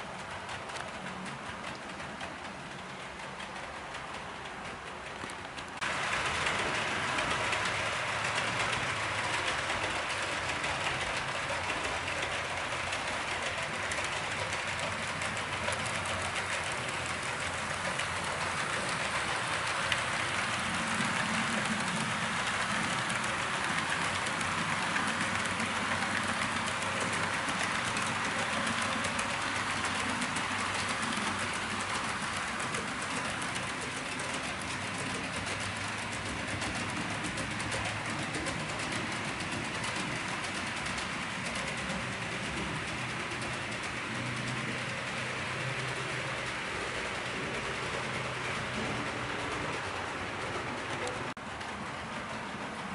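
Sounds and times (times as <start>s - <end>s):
train rolling along track: 0.0s - 52.9s.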